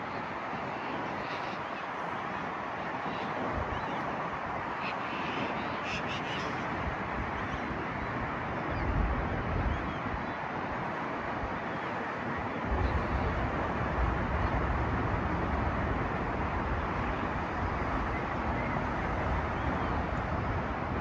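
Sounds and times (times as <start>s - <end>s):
wind: 0.0s - 21.0s
wind buffeting microphone: 0.0s - 21.0s.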